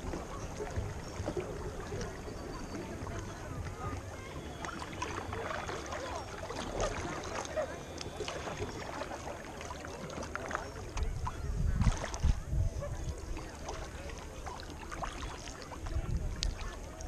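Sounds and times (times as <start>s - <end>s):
paddle water splashes and drips: 0.0s - 17.0s.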